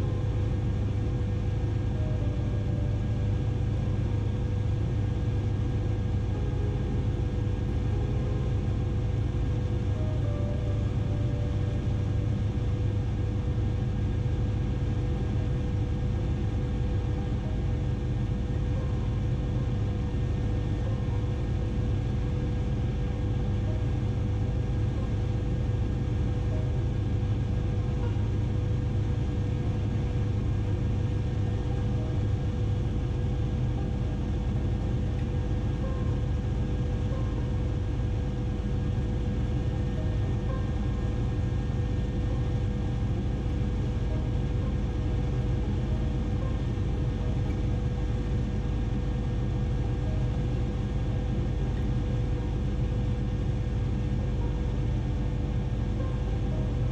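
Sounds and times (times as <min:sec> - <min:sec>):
constant whine: 0:00.0 - 0:56.9
helicopter rotor drone: 0:00.0 - 0:56.9.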